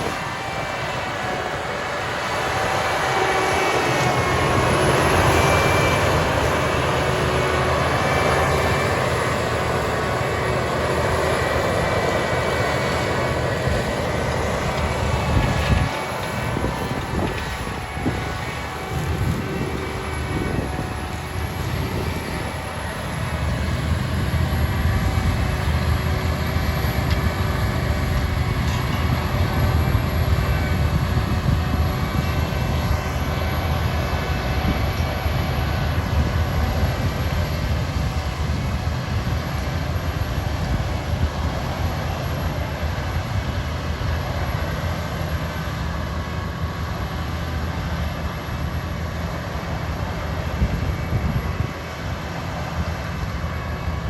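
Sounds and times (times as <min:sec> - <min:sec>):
deep engine rumble: 0:00.0 - 0:52.1
faint steady whines: 0:00.0 - 0:54.0.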